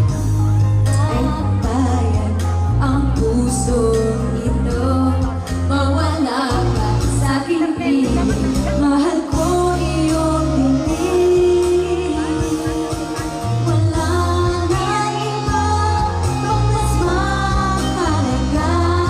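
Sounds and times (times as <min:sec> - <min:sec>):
pop song with singing: 0:00.0 - 0:19.0.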